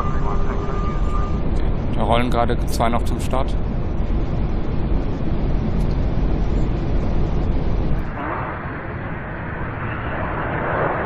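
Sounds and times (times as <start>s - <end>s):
airliner low rumble: 0.0s - 11.0s.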